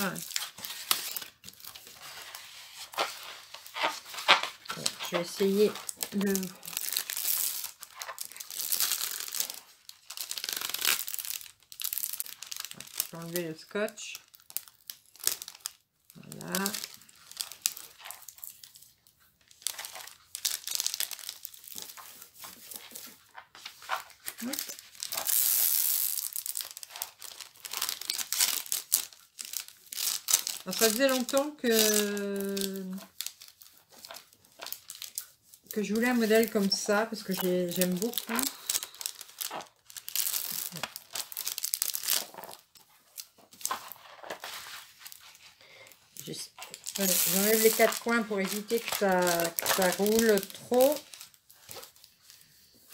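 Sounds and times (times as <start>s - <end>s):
packaging crinkling: 0.0s - 52.9s.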